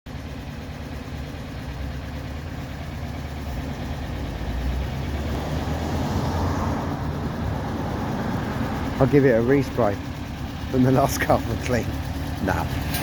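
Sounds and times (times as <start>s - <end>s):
car engine idling: 0.1s - 13.0s.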